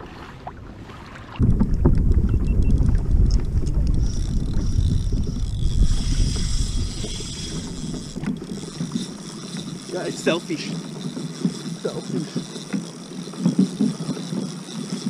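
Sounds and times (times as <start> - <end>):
wind buffeting microphone: 1.3 - 15.0.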